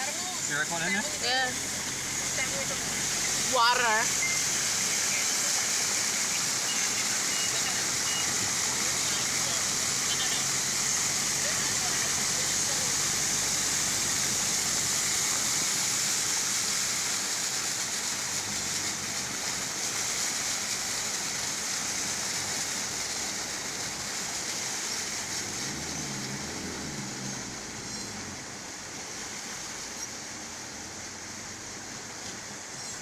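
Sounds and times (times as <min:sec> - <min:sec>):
floodwater rushing across a road: 0:00.0 - 0:33.0.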